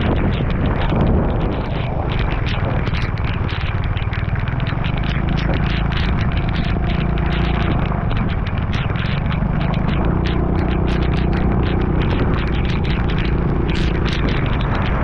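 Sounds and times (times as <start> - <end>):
raindrops ticking: 0.0 - 15.0
vehicle engine running: 0.0 - 15.0
wind rumble on camera: 0.0 - 15.0.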